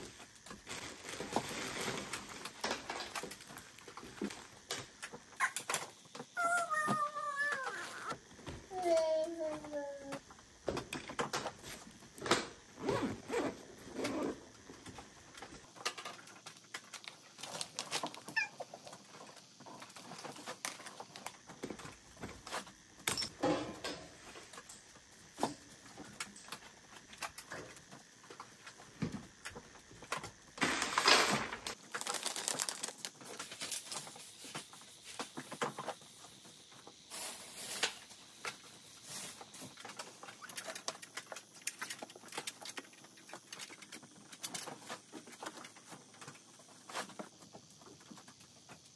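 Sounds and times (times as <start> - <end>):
household items being handled: 0.0 - 47.8.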